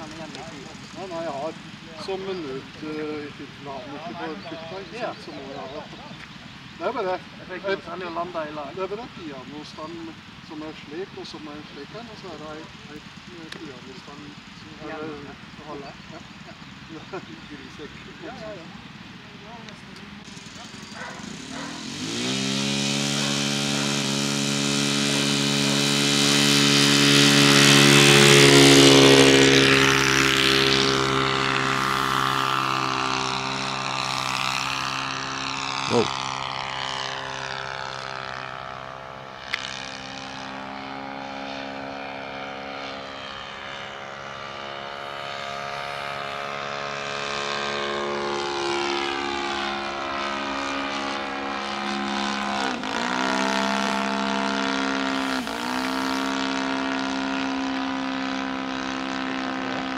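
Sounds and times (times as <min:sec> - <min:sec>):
model plane engine at full power: 0:00.0 - 0:59.9.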